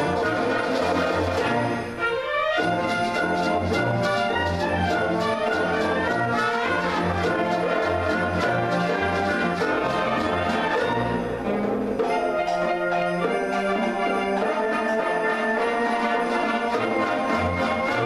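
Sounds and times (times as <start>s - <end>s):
concert band playing: 0.0s - 18.0s.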